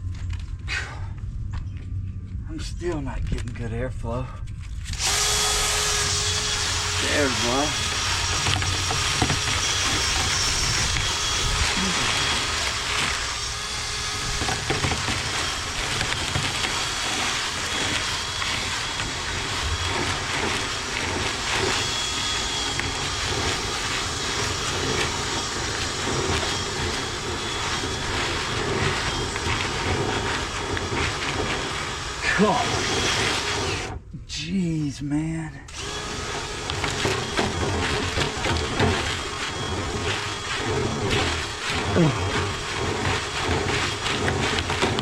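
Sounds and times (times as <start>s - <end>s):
vent cleaning machine whirring: 4.9s - 34.0s, 35.7s - 45.0s.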